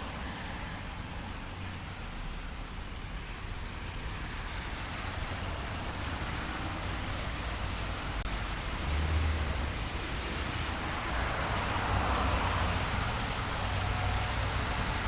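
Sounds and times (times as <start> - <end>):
rain on street: 0.0 - 15.0
traffic on wet roads: 0.0 - 15.0.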